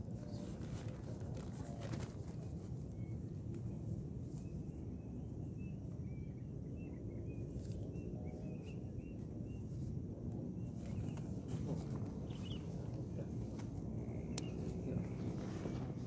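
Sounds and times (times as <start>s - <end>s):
steady low rumble: 0.0s - 16.0s
small birds chirping: 0.2s - 9.9s, 10.6s - 16.0s.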